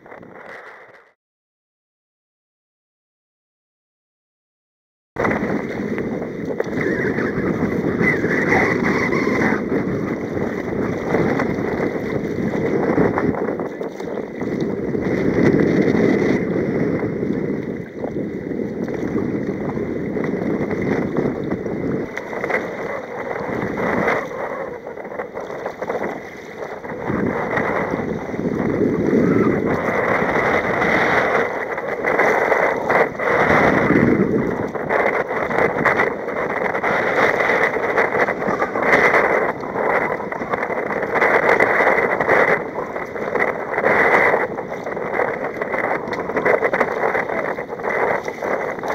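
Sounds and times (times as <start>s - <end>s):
wind buffeting microphone: 0.0s - 1.2s, 5.2s - 48.9s
water splashing against kayak hull: 5.2s - 48.9s.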